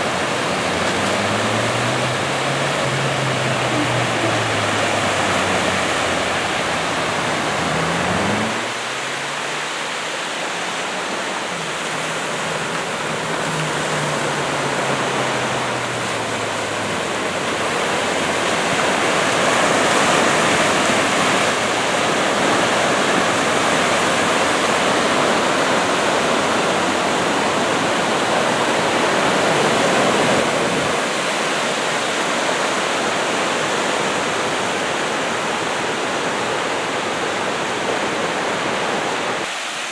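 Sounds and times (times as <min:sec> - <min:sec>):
surf breaking on beach: 0:00.0 - 0:39.9.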